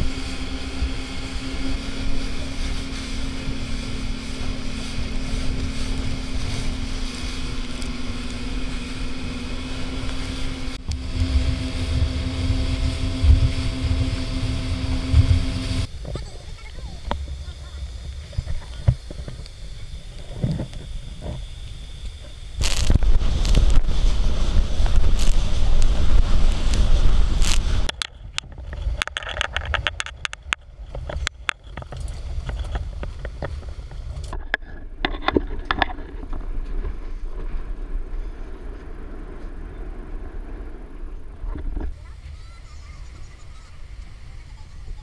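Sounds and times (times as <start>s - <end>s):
boat engine noise: 0.0s - 45.0s
wind buffeting microphone: 0.0s - 45.0s.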